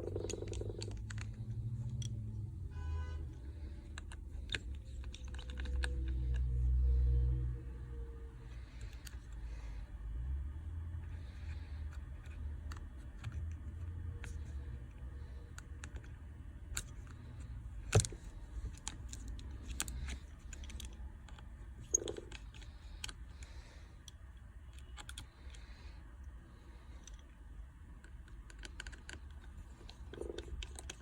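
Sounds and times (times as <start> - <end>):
small tools clicking on phone: 0.0 - 2.5, 3.3 - 7.4, 11.1 - 31.0.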